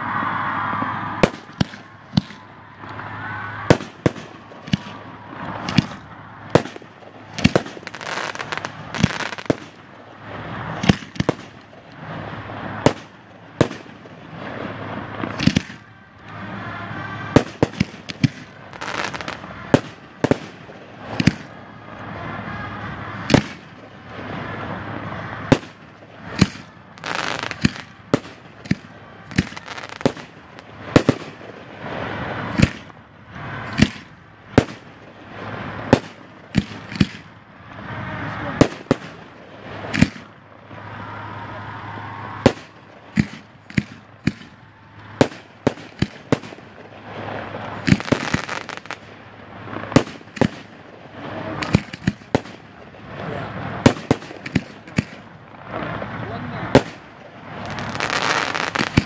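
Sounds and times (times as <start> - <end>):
fireworks shells bursting: 0.6 - 59.0.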